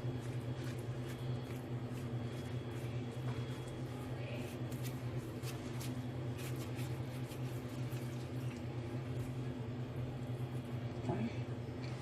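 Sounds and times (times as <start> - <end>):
low electrical hum: 0.0 - 12.0
sauce spread over dough: 0.0 - 12.0.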